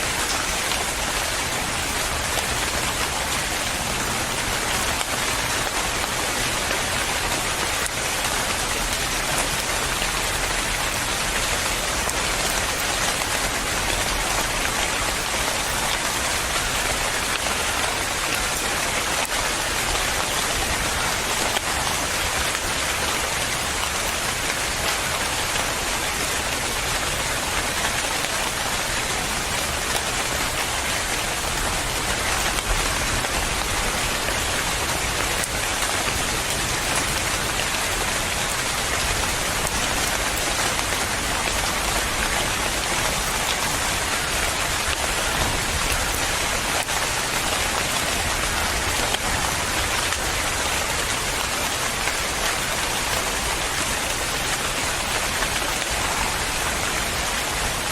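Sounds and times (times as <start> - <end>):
rain falling: 0.0 - 57.9
raindrops ticking on surface: 0.0 - 57.9.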